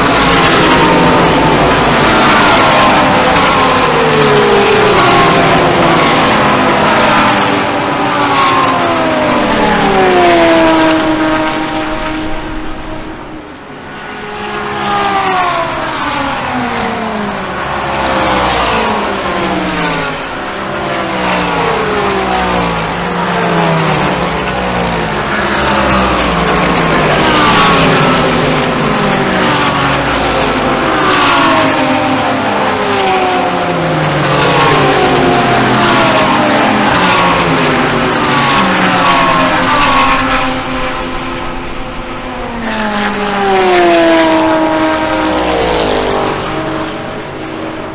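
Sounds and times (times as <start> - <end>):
race cars passing at speed: 0.0 - 47.9.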